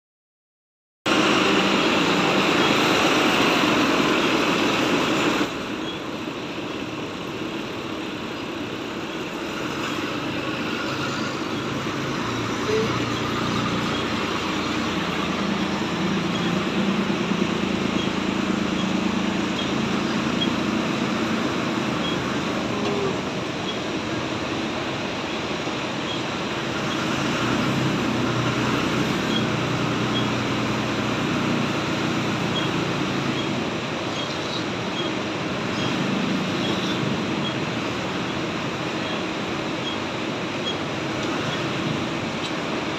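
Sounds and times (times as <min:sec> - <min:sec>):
tractor diesel engine running: 0:01.1 - 0:42.9.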